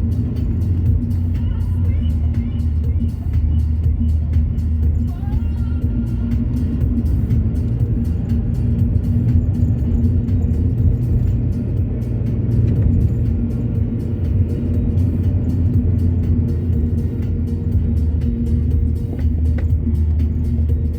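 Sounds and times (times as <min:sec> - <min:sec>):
car engine rumble: 0:00.0 - 0:20.9
road noise: 0:00.0 - 0:20.9.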